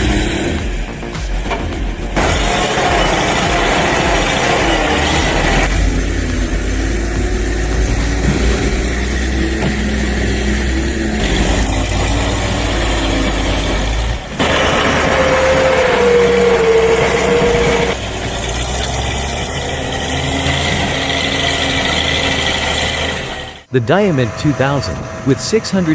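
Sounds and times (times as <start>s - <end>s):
heavy machinery engines running: 0.0s - 23.7s
steady whine: 0.0s - 25.9s.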